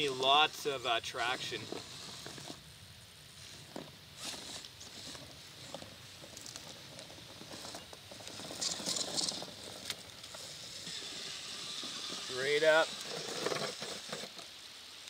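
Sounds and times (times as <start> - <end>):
rustling scrapes: 0.0 - 2.7, 3.3 - 14.6
toy car tyres scrabbling: 0.0 - 2.7, 3.4 - 14.6.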